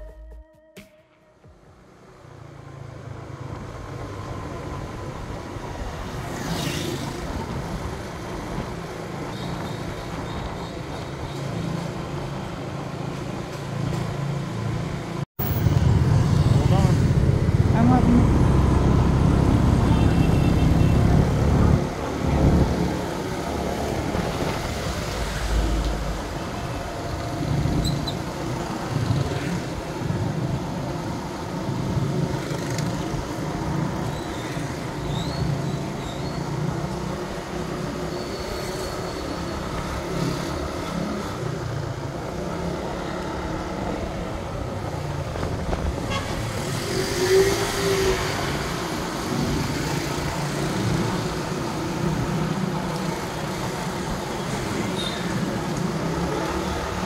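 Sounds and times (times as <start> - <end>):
traffic: 1.2 - 57.0.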